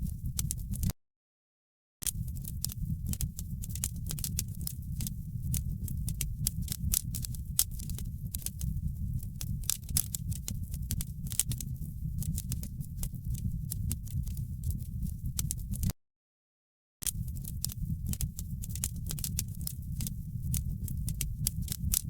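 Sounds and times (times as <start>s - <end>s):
low rumble of flame: 0.0s - 0.9s, 2.1s - 15.9s, 17.1s - 22.0s
wood fire crackling: 2.1s - 15.9s, 17.1s - 22.0s.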